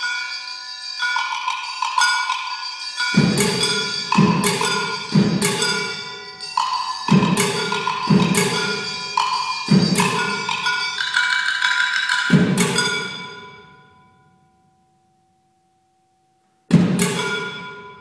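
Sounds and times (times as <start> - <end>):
struck metal percussion ringing: 1.0 - 14.6, 16.7 - 18.0.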